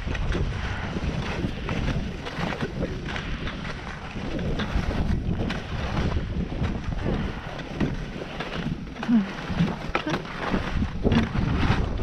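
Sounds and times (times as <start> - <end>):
low wind rumble: 0.0 - 12.0
skis sliding over snow: 0.0 - 12.0.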